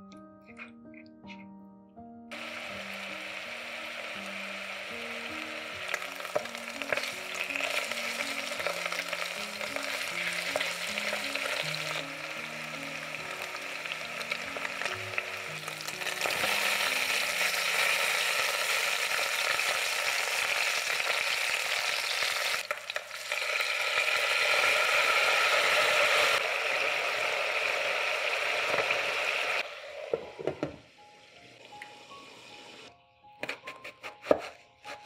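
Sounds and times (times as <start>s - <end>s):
food sizzling in a hot pan: 2.3s - 32.8s.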